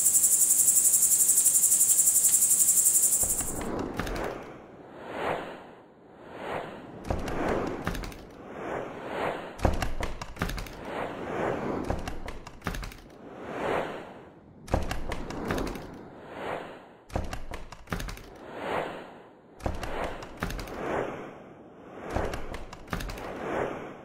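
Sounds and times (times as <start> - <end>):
whooshes: 3.0 - 24.0.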